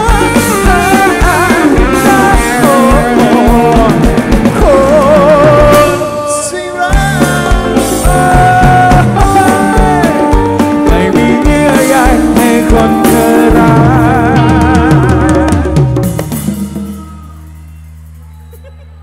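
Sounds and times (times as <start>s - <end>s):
bass: 0.0s - 19.0s
drum kit: 0.0s - 19.0s
wavering melodic lead line: 0.0s - 19.0s.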